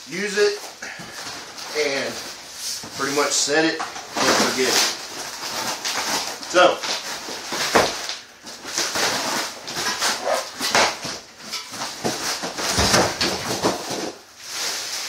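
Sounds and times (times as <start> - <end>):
cardboard tearing and rustling: 1.1 - 15.0.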